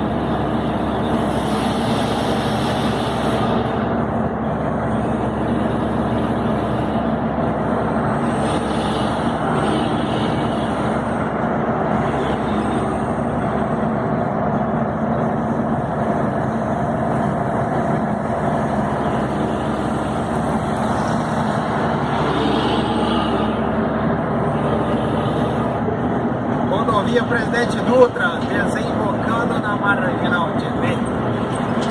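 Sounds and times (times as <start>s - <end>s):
road and cab noise: 0.0s - 31.9s
truck diesel engine running: 0.0s - 31.9s.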